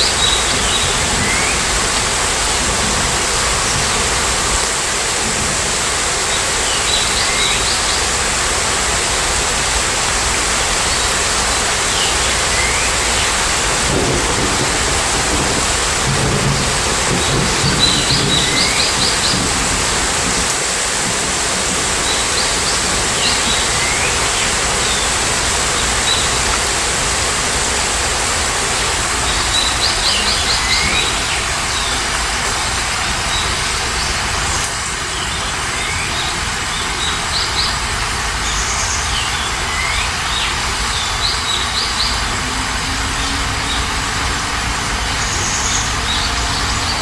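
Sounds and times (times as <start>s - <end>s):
heavy rain: 0.0s - 47.0s.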